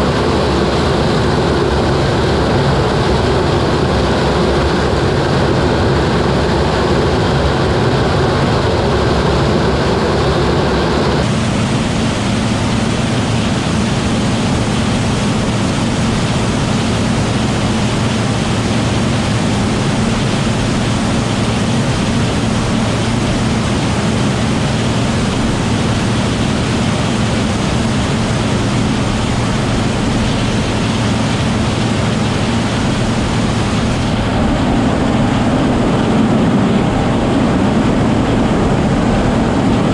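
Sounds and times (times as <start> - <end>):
combine harvester drone: 0.0 - 39.9
low hum: 0.0 - 39.9.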